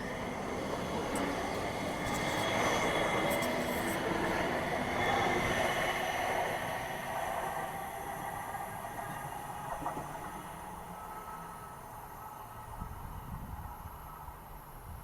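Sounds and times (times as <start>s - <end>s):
light rail train rumbling past: 0.0s - 15.0s.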